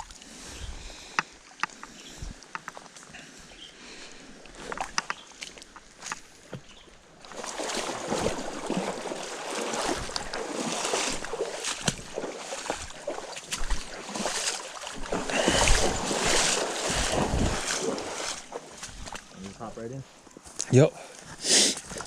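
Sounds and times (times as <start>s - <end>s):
rushing creek water: 0.0s - 20.3s
crackling splashes: 0.0s - 20.4s.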